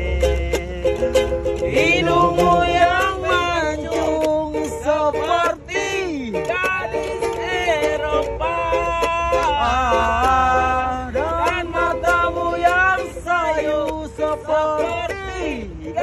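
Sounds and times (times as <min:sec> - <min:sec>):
male voices singing along: 0:00.0 - 0:16.0
man singing: 0:00.0 - 0:16.0
strummed ukulele: 0:00.0 - 0:16.0.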